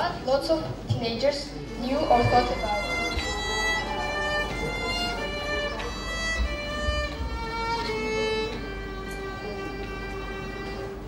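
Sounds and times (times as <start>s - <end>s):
solo violin melody: 1.6s - 11.0s.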